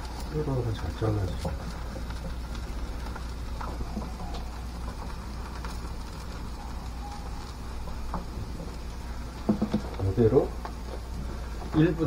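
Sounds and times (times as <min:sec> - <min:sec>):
batter sizzling in oil: 0:00.0 - 0:12.0
steady low hum: 0:00.0 - 0:12.0.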